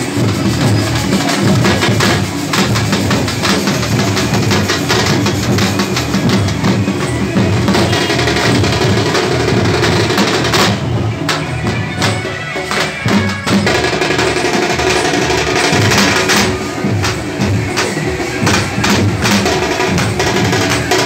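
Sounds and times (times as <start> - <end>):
music with fast dense drumming: 0.0 - 21.0.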